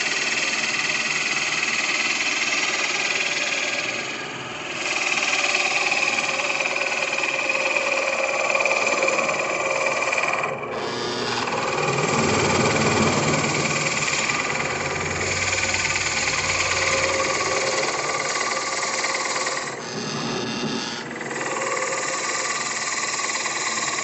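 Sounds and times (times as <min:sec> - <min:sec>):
drill press boring into wood: 0:00.0 - 0:20.1, 0:20.8 - 0:24.0.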